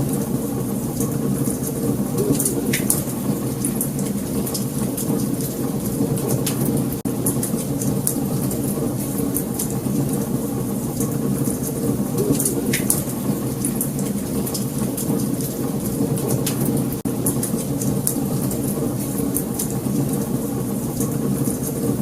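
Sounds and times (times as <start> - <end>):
wood fire burning: 0.0 - 22.0
wood crackling and popping: 0.9 - 22.0.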